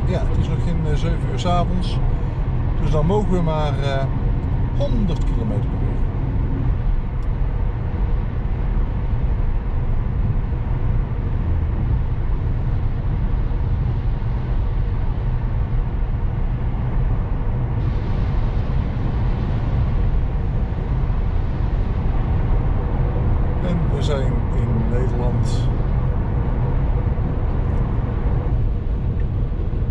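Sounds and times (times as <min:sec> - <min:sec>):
road and tyre rumble in car: 0:00.0 - 0:29.9.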